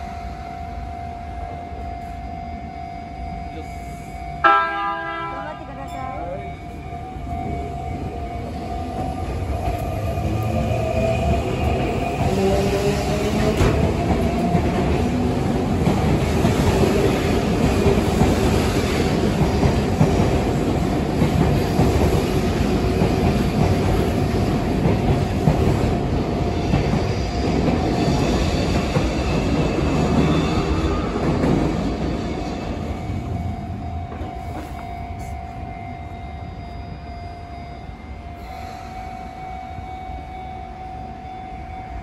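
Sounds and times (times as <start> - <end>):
train wheels rumbling on rails: 3.5 - 42.0.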